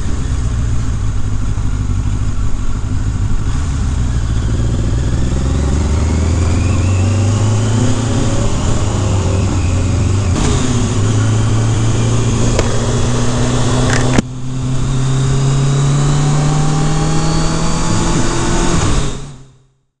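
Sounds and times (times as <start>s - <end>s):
wind and road noise: 0.0s - 19.6s
motorcycle engine accelerating: 0.0s - 19.7s.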